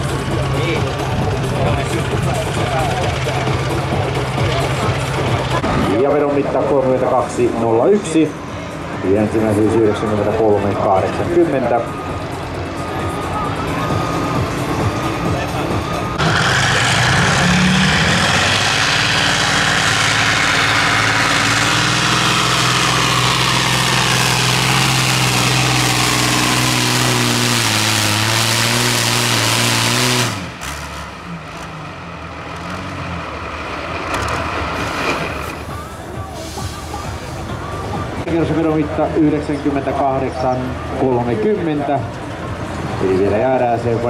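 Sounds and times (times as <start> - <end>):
tractor engine at full throttle: 0.0 - 44.0.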